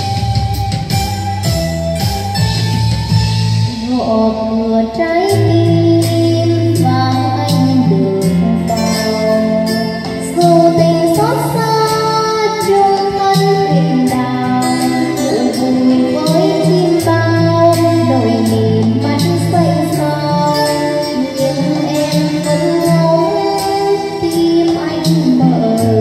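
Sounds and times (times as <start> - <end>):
karaoke ballad backing music: 0.0 - 26.0.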